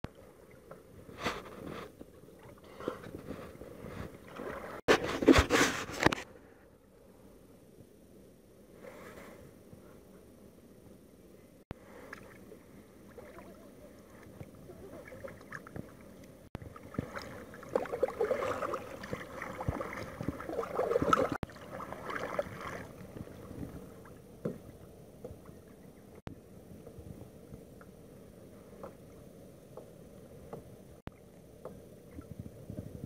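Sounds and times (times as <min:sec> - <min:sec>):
water lapping against hull: 0:00.0 - 0:06.2, 0:11.6 - 0:33.0.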